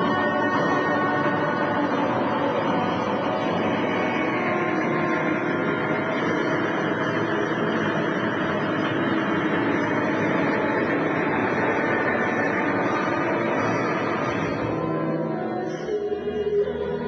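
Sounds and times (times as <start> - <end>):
hall noise: 0.0 - 17.0
muffled music over loudspeakers: 0.0 - 17.0.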